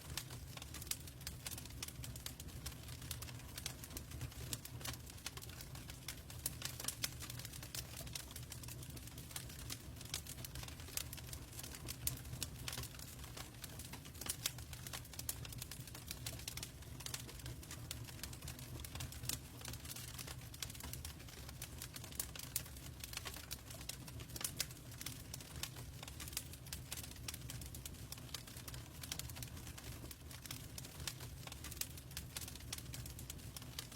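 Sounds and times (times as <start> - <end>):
log fire crackling: 0.0 - 33.9.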